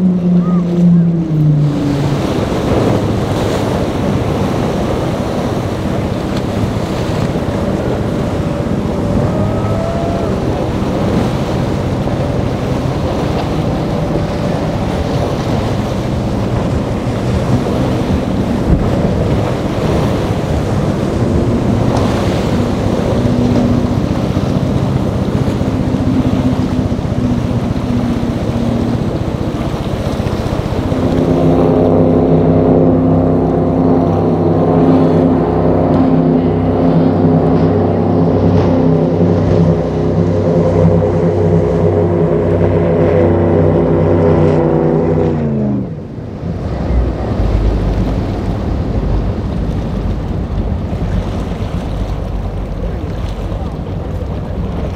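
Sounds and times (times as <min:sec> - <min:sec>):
outboard motors running: 0:00.0 - 0:54.9
powerboat engine drone: 0:00.0 - 0:54.9
waves and spray rushing: 0:00.0 - 0:54.9
wind on microphone: 0:00.0 - 0:54.9.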